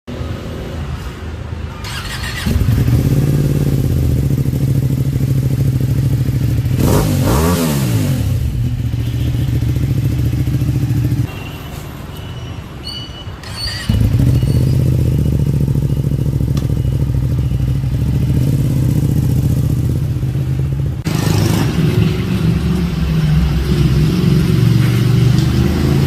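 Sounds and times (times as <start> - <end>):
motorcycle engine revving: 1.8 - 11.3, 13.4 - 26.0.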